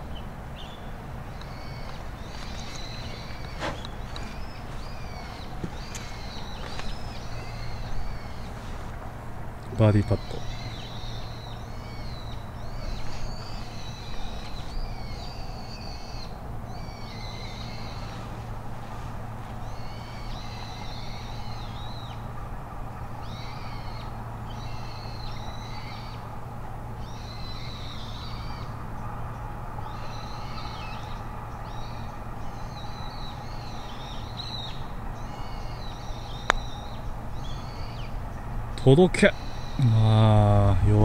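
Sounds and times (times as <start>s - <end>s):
birds chattering: 0.0s - 41.0s
low outdoor hum: 0.0s - 41.0s.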